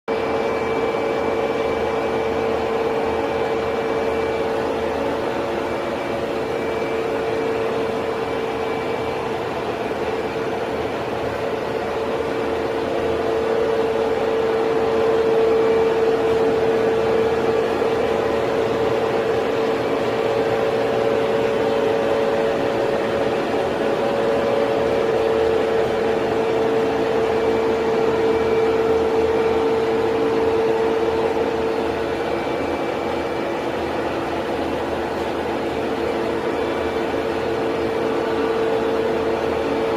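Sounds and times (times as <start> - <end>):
faint machine whir: 0.1 - 39.9
machine humming with steady tone: 0.1 - 39.9.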